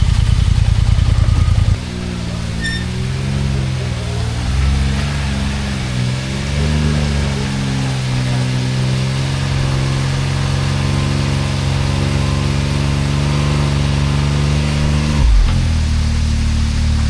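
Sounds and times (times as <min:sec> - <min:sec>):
utility vehicle engine running: 0:00.0 - 0:17.0.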